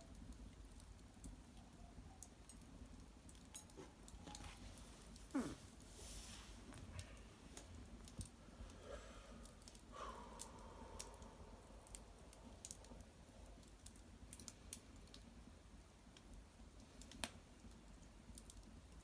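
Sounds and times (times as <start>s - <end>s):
small wood fire crackling: 0.0s - 19.0s.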